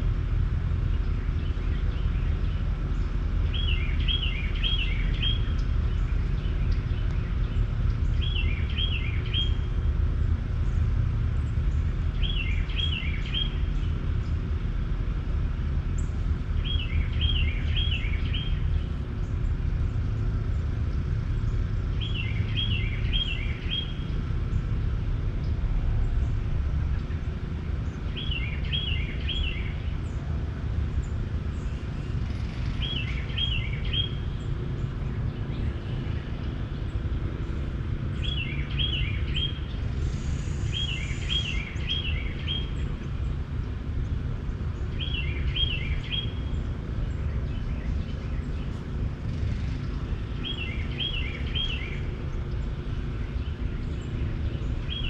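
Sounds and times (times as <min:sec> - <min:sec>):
steady low rumble: 0:00.0 - 0:55.0
bird song phrase: 0:00.8 - 0:10.8, 0:11.5 - 0:14.5, 0:15.9 - 0:55.0.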